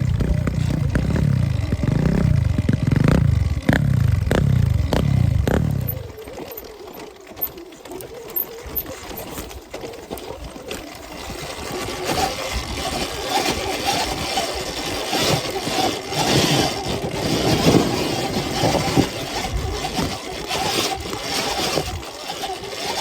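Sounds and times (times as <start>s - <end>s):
electric dirt bike motor whine: 0.0s - 23.0s.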